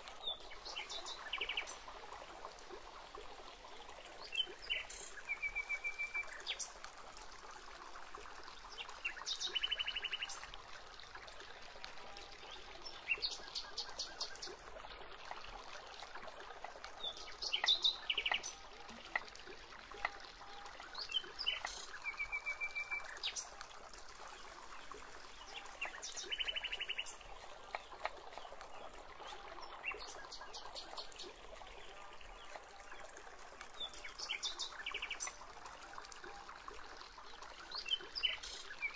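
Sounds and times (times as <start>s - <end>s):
faint outdoor hiss: 0.0s - 38.9s.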